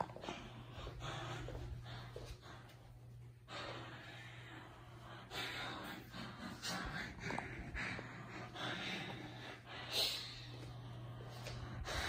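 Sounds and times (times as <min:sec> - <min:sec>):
close breathing: 0:00.0 - 0:12.0
steady low hum: 0:00.0 - 0:12.0.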